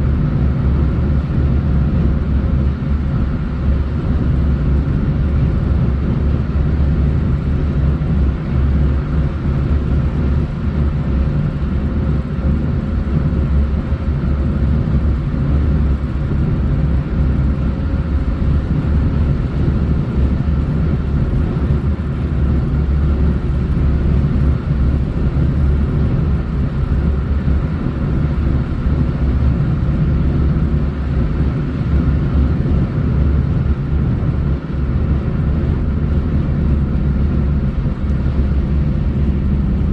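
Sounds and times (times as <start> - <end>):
vehicle road noise rumble: 0.0 - 39.9.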